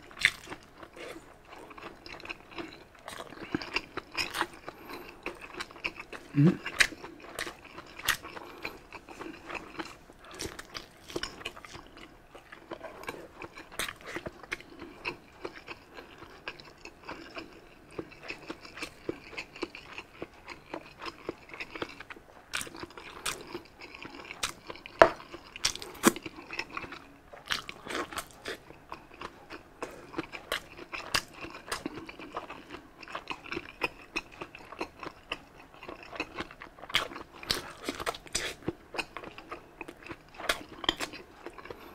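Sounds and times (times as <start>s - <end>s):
person chewing: 0.0s - 41.9s.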